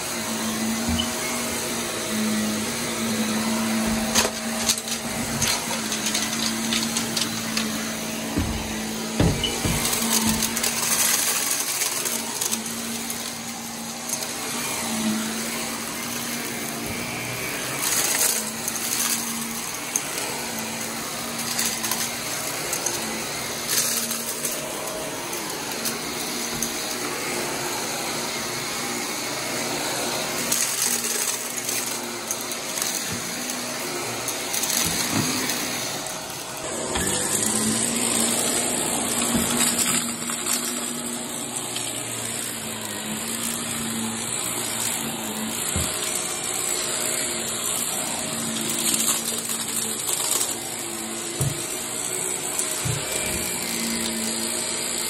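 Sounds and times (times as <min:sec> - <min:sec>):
high vacuum whine: 0:00.0 - 0:54.9
vacuum cleaner running on carpet: 0:00.0 - 0:55.0.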